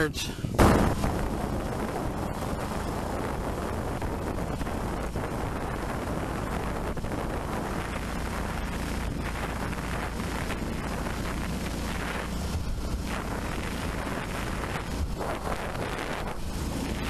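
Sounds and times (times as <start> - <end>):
outboard motor running: 0.0 - 17.0
wind rushing over microphone: 0.0 - 17.0.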